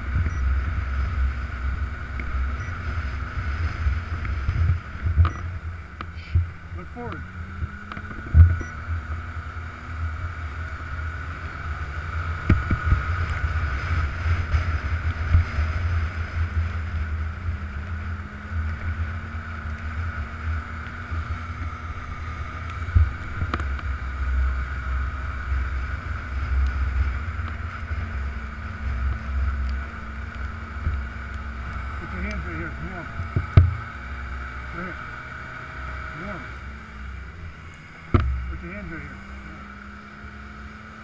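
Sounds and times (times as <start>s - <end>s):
wind rumbling on microphone: 0.0s - 34.5s
snowmobile engine running: 0.0s - 41.0s.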